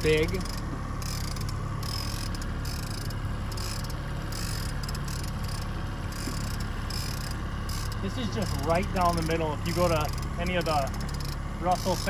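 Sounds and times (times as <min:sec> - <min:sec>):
outboard motor running: 0:00.0 - 0:12.0
rapid high ticking: 0:00.0 - 0:12.0.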